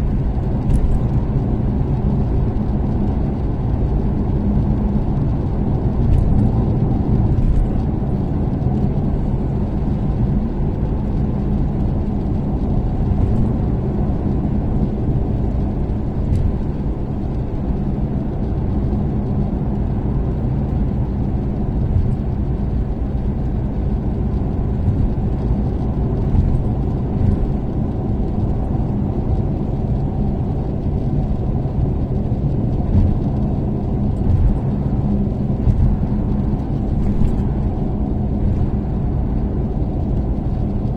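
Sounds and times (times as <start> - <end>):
car engine cruising: 0.0 - 40.9
road noise: 0.0 - 40.9.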